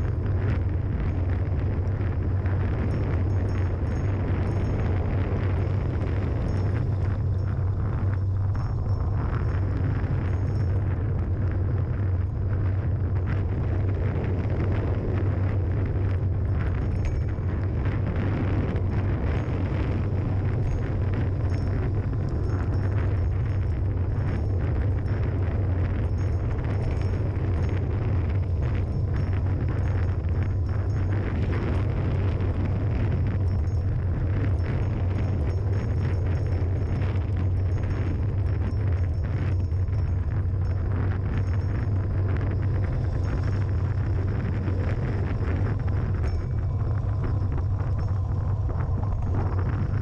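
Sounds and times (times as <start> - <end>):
low road rumble: 0.0 - 50.0
wind buffeting microphone: 0.0 - 50.0.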